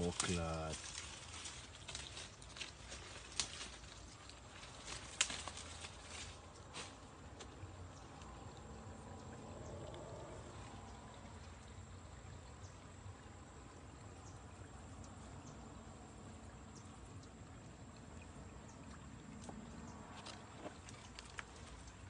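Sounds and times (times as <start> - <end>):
faint steady hiss: 0.0 - 19.5.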